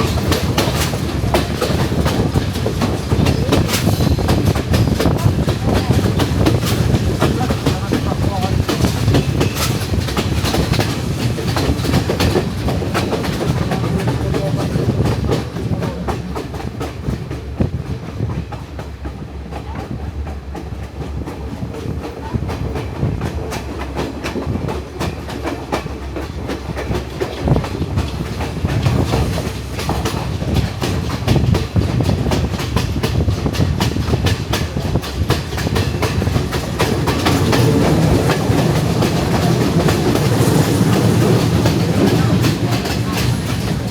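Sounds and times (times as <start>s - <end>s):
train rumble: 0.0s - 43.9s
wheels clickety-clack over rail joints: 0.0s - 43.9s.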